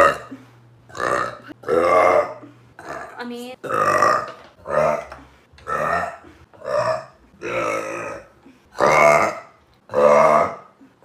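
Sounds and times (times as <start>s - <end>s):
woman burping loudly: 0.0s - 10.9s.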